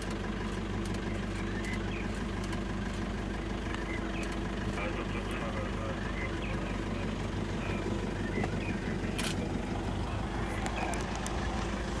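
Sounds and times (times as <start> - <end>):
vehicle engine low hum: 0.0 - 12.0.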